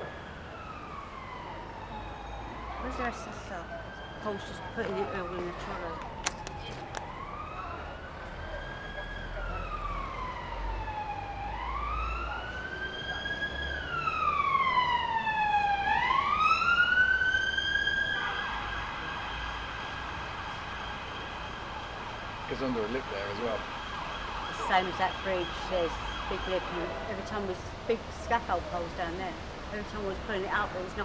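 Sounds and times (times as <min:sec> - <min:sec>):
emergency vehicle siren wailing: 0:00.0 - 0:31.0.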